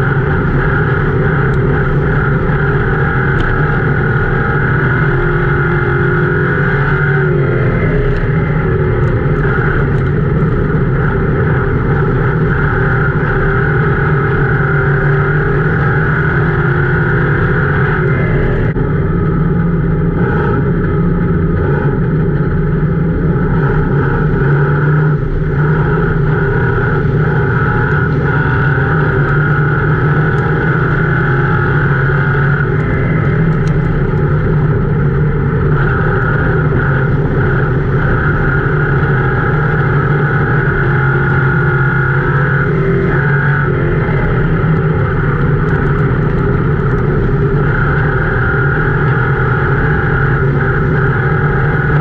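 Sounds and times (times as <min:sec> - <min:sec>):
race car engine droning: 0:00.0 - 0:52.0.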